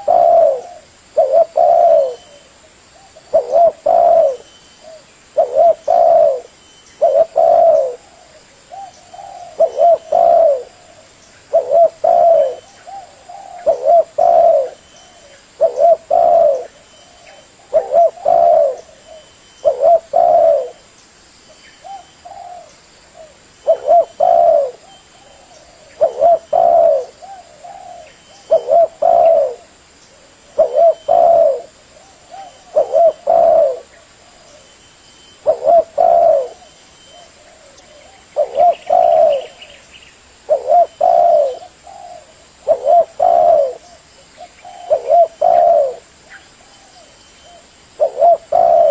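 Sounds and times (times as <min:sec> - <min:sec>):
dove cooing: 0:00.0 - 0:20.9, 0:21.8 - 0:34.8, 0:35.4 - 0:39.8, 0:40.4 - 0:48.9.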